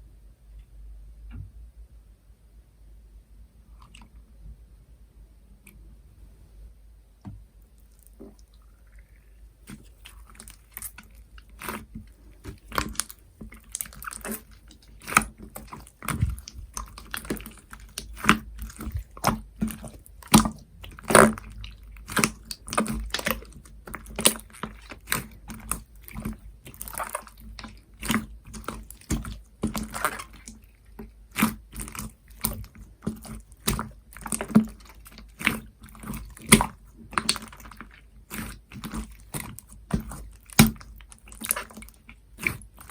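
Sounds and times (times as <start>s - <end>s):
hands squishing slime: 7.8s - 42.9s.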